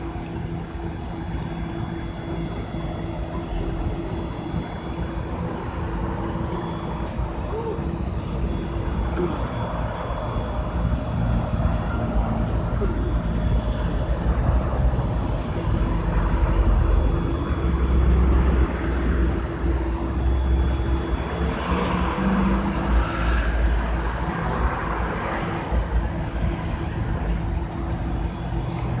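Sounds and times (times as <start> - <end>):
traffic rumble of cars and buses: 0.0 - 29.0.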